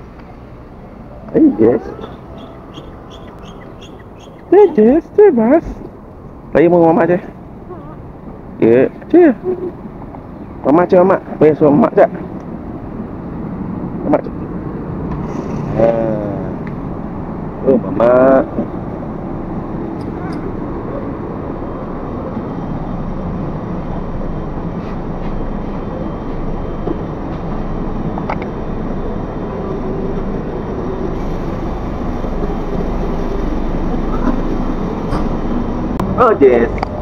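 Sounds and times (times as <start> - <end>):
bus engine running: 0.0 - 10.6, 12.1 - 37.0.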